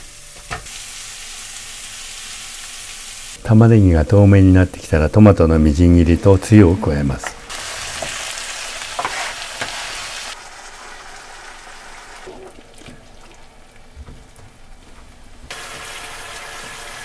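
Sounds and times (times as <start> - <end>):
tomatoes sizzling in a frying pan: 0.0 - 12.3, 15.5 - 17.0.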